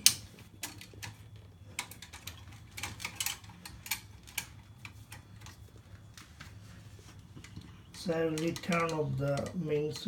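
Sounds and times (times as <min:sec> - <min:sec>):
small hard parts clicking: 0:00.0 - 0:05.9, 0:07.4 - 0:10.0
steady low hum: 0:00.0 - 0:10.0.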